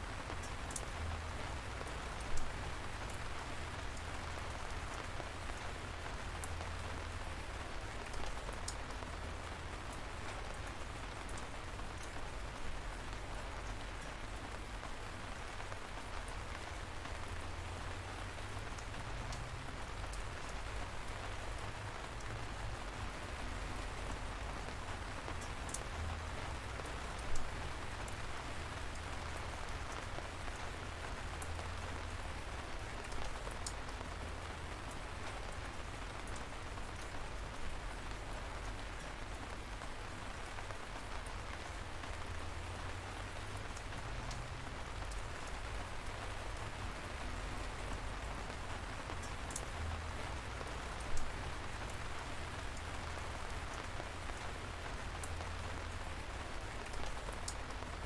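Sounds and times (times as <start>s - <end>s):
light rain falling: 0.0s - 58.0s.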